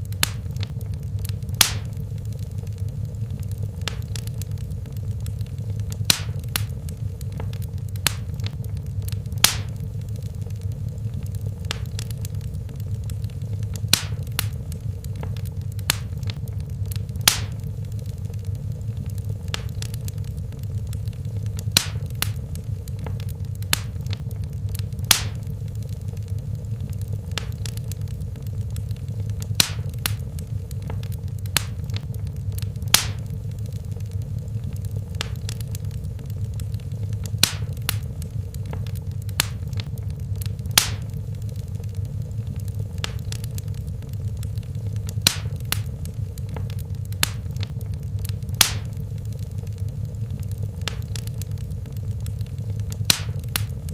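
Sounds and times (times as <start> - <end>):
low rumble of flames: 0.0 - 53.9
wood fire crackling: 0.0 - 53.9.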